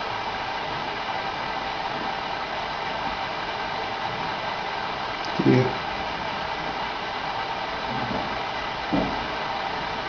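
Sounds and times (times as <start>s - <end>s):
faint hum: 0.0s - 10.0s
steady background hiss: 0.0s - 10.0s.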